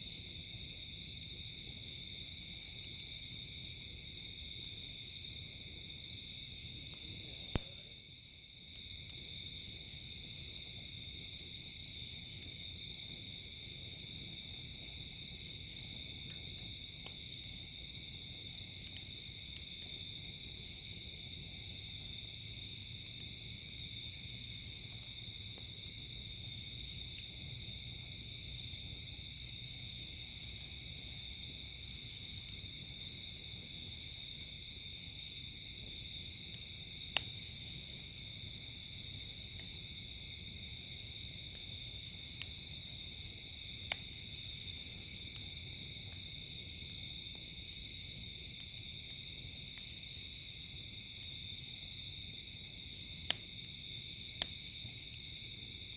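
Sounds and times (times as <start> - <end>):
campfire pops: 0.0 - 55.9
crickets chirring: 0.0 - 55.9
insects buzzing: 0.0 - 55.9.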